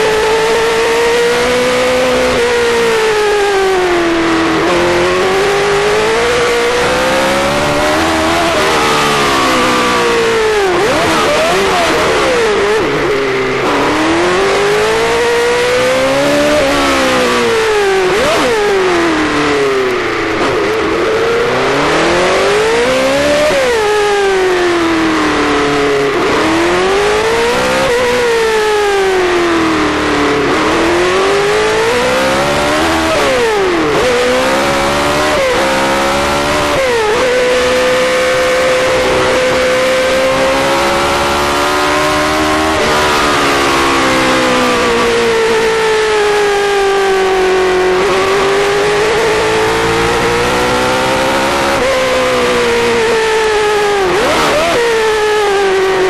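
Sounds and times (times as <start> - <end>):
gear shifts with pitch drops: 0.0 - 56.0
racing car engine revving: 0.0 - 56.0.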